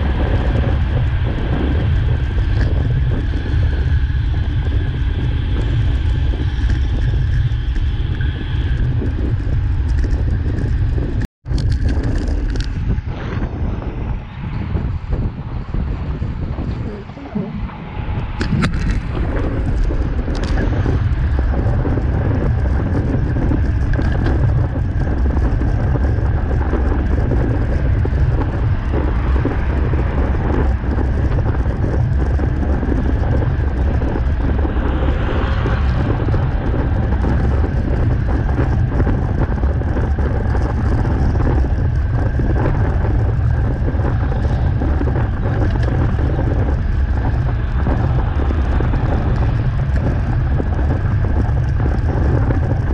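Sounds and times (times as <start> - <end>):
tyre and road noise: 0.0 - 52.9
wind buffeting microphone: 0.0 - 52.9.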